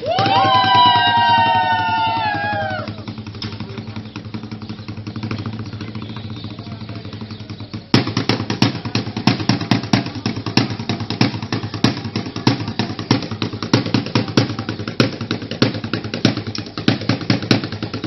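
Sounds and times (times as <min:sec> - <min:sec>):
drum beating a rhythm: 0:00.0 - 0:18.0.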